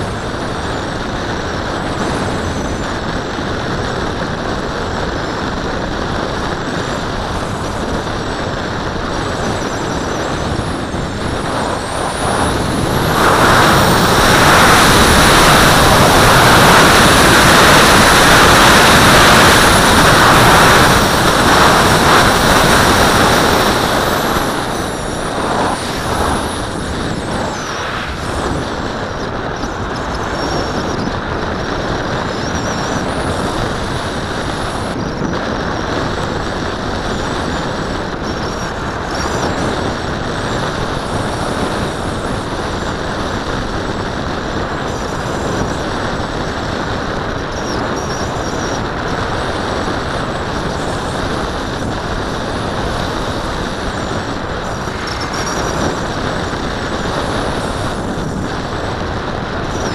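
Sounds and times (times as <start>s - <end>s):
airflow rushing over microphone: 0.0s - 59.9s.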